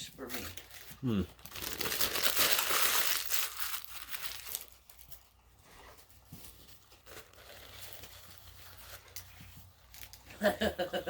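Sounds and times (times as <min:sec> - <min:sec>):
paper packaging crinkling: 0:00.2 - 0:10.3.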